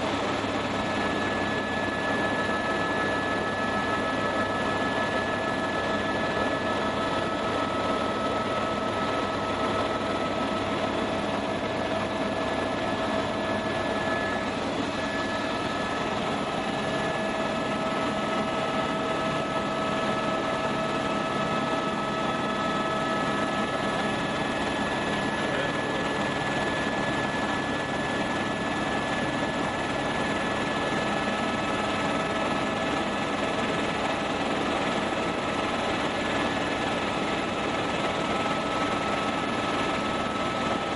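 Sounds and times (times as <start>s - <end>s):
helicopter rotor and engine noise: 0.0s - 40.9s
steady whine: 0.0s - 40.9s.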